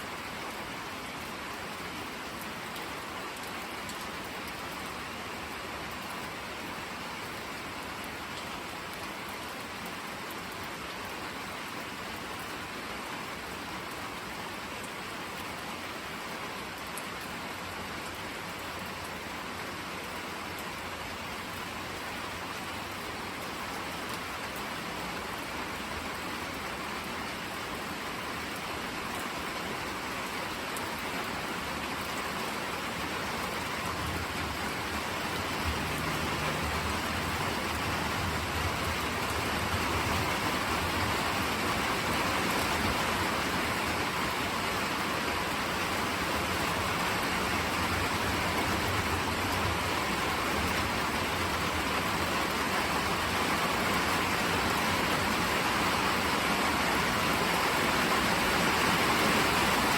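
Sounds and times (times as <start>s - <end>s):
rain pattering on surfaces: 0.0s - 59.9s.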